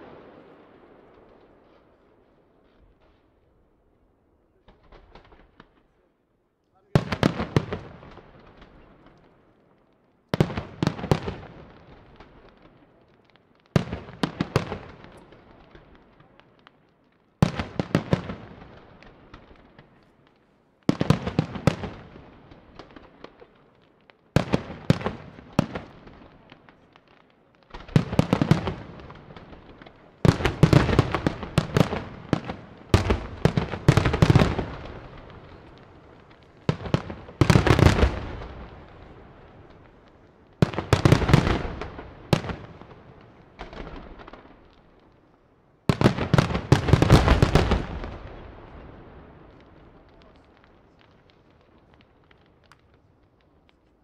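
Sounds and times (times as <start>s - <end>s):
fireworks bursting: 0.0s - 3.5s, 6.8s - 54.0s.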